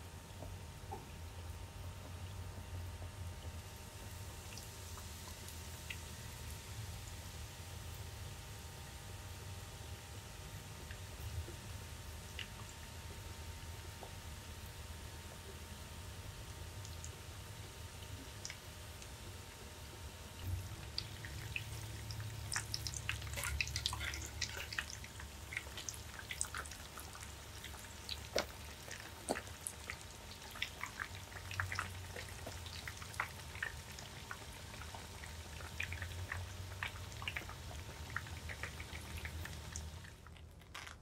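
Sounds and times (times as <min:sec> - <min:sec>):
food deep-frying in hot oil: 0:00.0 - 0:41.0.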